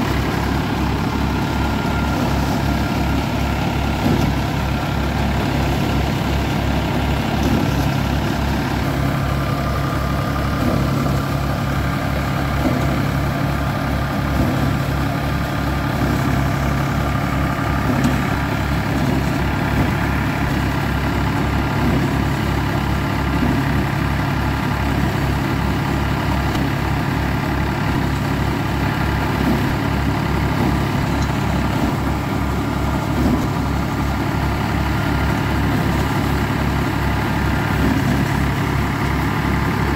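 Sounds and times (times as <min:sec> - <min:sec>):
thresher drum whirring: 0:00.0 - 0:39.9
tractor engine running: 0:00.0 - 0:39.9.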